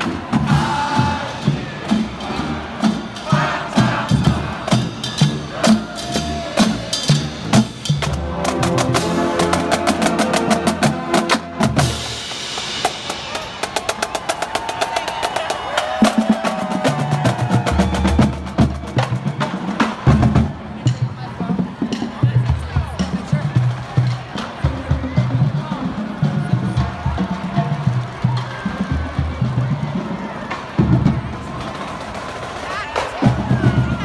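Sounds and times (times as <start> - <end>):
rapid snare drum strokes: 0.0 - 29.9
marching band playing: 0.0 - 34.0.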